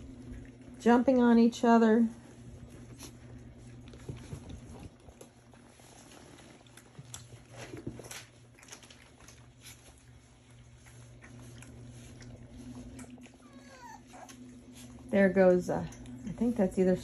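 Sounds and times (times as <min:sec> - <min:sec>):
puppies nibbling at plastic dish: 0:00.0 - 0:17.0.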